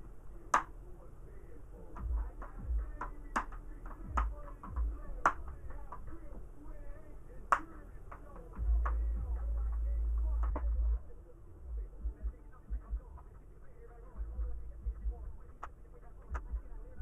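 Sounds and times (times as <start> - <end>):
low rumble: 0.0 - 7.4, 8.4 - 17.0.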